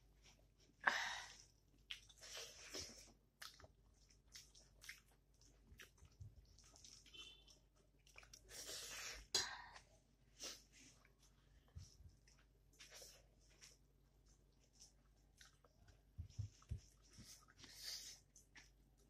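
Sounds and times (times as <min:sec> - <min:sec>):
close-up chewing: 0:01.4 - 0:08.9, 0:10.6 - 0:19.0.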